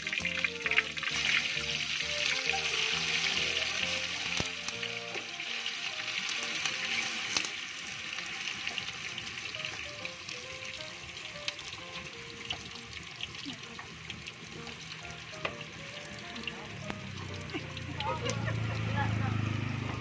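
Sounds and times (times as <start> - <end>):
food sizzling in hot oil: 0.0 - 19.8.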